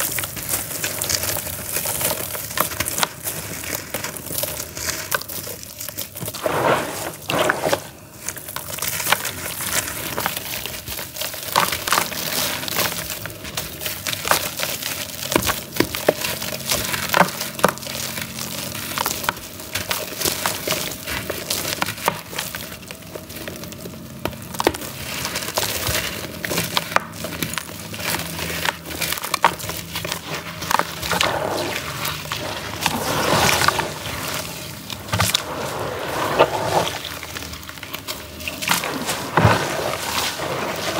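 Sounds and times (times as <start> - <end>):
charcoal crumbling and crunching: 0.0 - 40.9.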